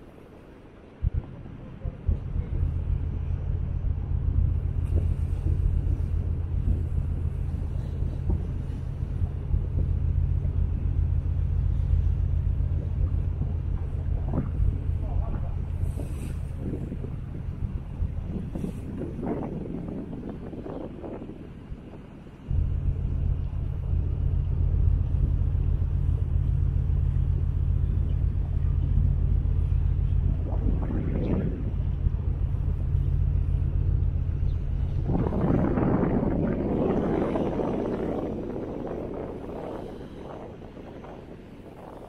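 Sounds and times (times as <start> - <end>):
ferry engine low rumble: 0.0 - 42.0.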